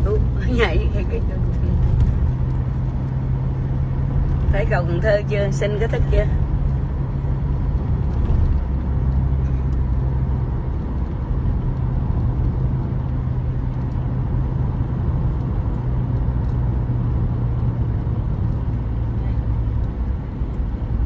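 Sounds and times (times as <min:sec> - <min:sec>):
car engine and tyres drone: 0:00.0 - 0:21.0.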